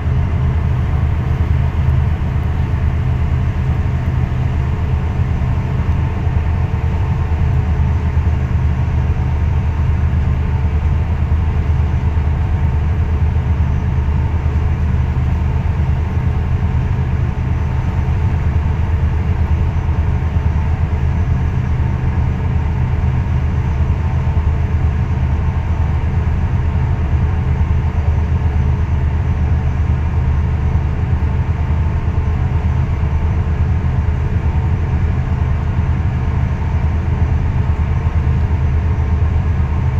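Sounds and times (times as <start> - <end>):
ship machinery drone: 0.0 - 39.9.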